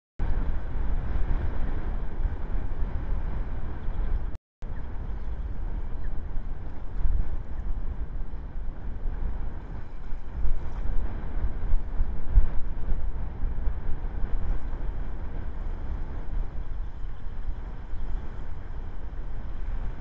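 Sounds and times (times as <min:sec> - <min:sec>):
wind buffeting microphone: 0:00.2 - 0:20.0.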